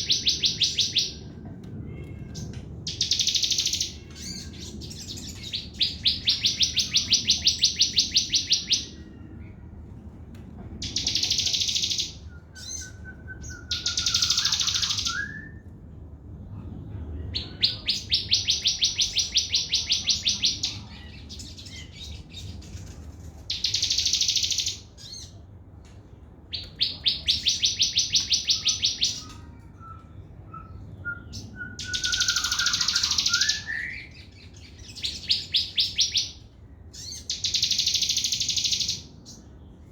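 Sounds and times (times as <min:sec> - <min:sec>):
bird trilling song: 0:00.0 - 0:01.3, 0:02.0 - 0:09.2, 0:10.8 - 0:15.6, 0:17.4 - 0:25.4, 0:26.5 - 0:39.7.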